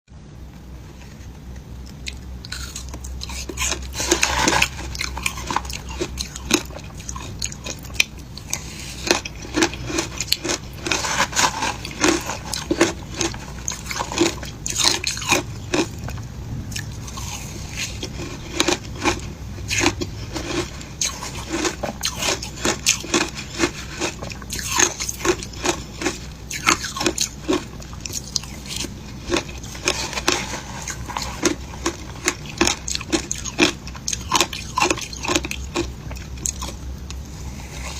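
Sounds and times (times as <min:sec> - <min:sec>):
crunchy chewing of shaved ice: 0:00.9 - 0:37.9.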